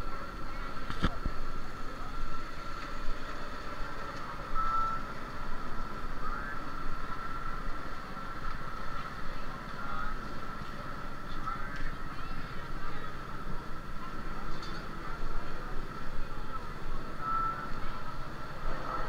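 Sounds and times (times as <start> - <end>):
low rumble of background noise: 0.0 - 19.0
steady high-pitched tone: 0.0 - 19.0.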